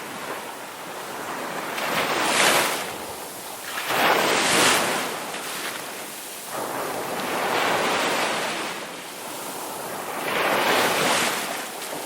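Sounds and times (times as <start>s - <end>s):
waves breaking on a beach: 0.0s - 12.0s.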